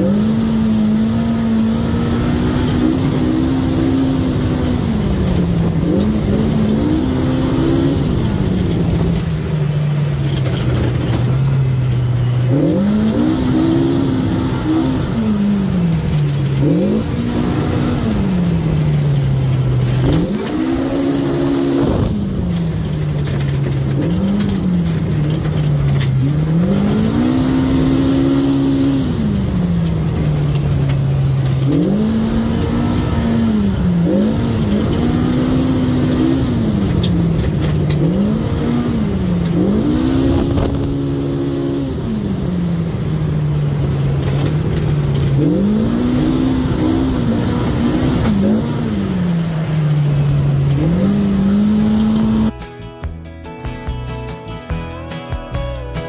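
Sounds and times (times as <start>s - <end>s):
off-road vehicle engine revving: 0.0s - 52.7s.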